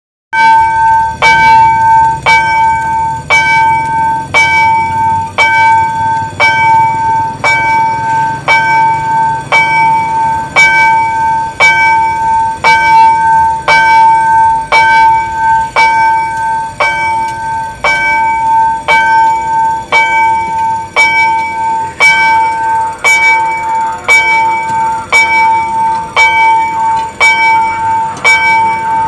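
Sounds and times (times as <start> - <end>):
level-crossing warning bell ringing: 0.3 - 29.0.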